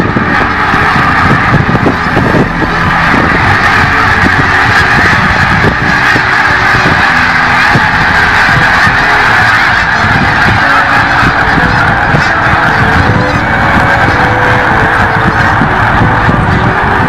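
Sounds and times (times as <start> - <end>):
flock of geese honking: 0.0 - 17.0.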